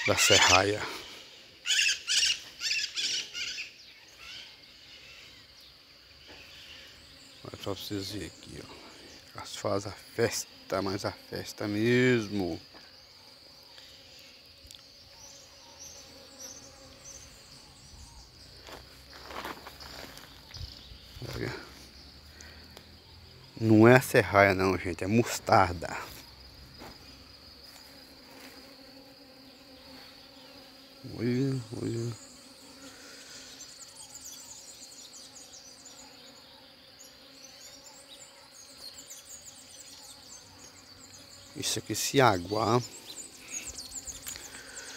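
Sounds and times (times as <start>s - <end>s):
bees buzzing: 0.0s - 44.9s
insects trilling: 0.0s - 44.9s.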